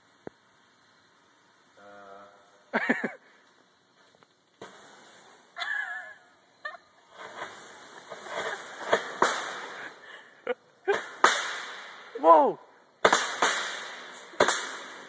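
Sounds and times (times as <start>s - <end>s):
firework fizzing and crackling: 0.0s - 15.0s.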